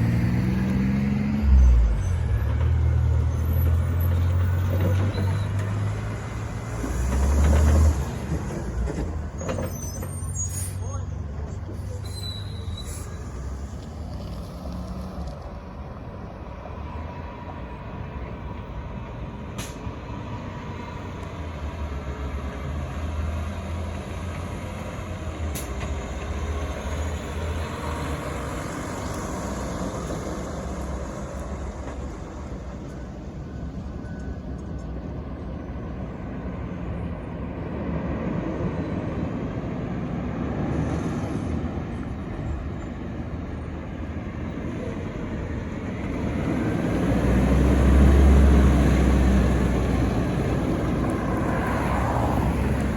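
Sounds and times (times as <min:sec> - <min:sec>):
garbage trucks rumbling: 0:00.0 - 0:16.9, 0:17.6 - 0:52.9.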